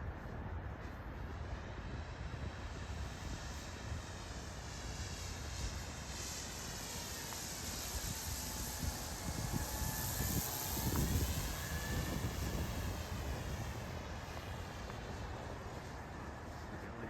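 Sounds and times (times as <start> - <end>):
model plane motor whirring: 1.3 - 17.0.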